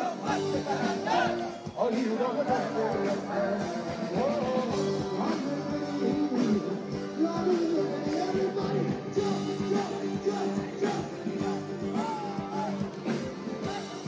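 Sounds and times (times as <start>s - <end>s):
drum beat: 0.0s - 14.0s
person singing: 0.0s - 14.0s
rock band playing live: 0.0s - 14.0s.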